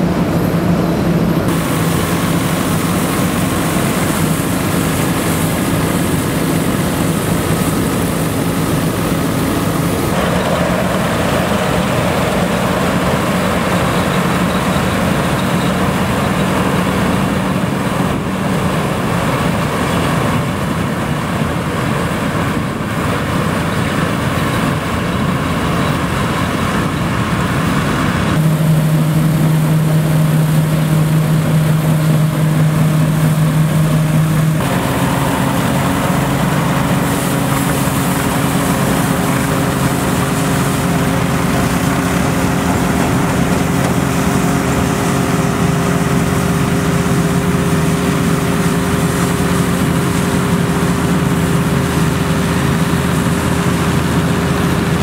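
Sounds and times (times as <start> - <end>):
threshing machinery droning hum: 0.0 - 55.0
tractor and combine harvester engines: 0.0 - 55.0.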